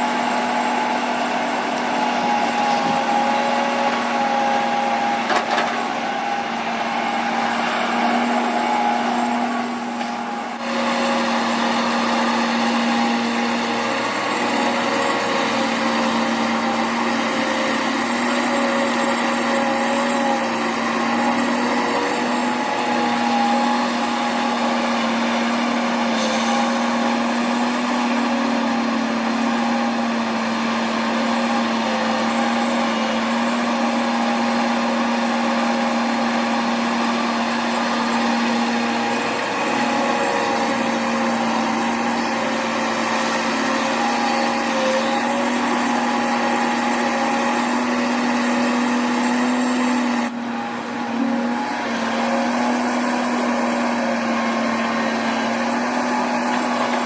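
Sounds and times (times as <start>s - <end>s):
diesel engine running under work: 0.0s - 57.0s.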